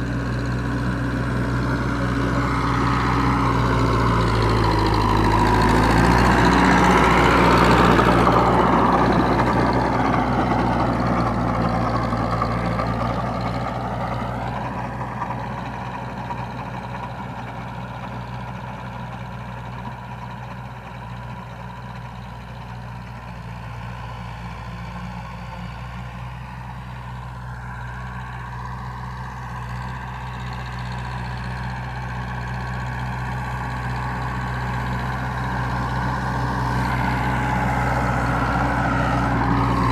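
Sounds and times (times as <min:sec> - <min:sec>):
tractor engine working: 0:00.0 - 0:39.9.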